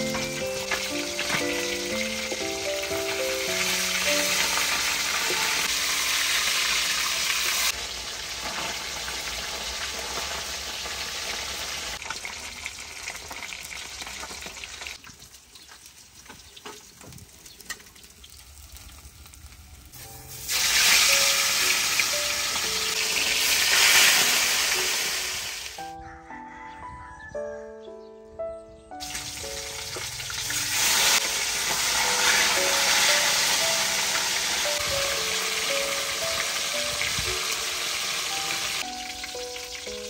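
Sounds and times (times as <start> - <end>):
fish sizzling in hot oil: 0.0 - 25.8, 29.0 - 40.0.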